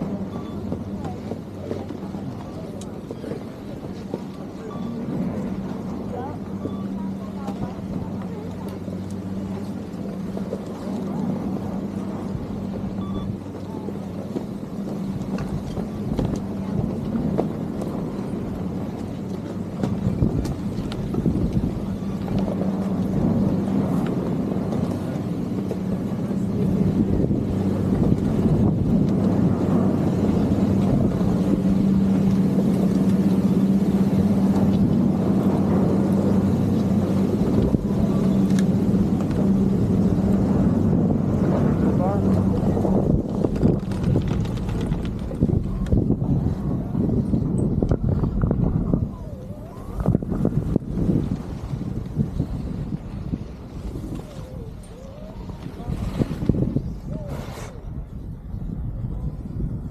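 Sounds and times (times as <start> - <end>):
chairlift mechanical hum: 0.0 - 57.3
wind on microphone: 0.0 - 59.9.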